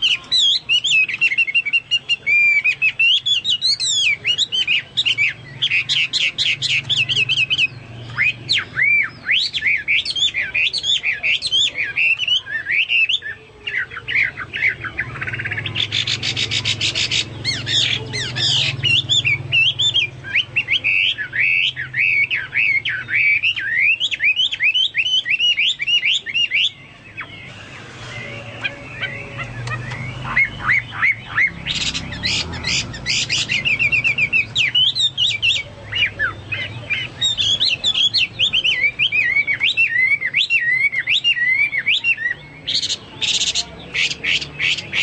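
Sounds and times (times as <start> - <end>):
bird singing whistled phrases: 0.0 - 43.6.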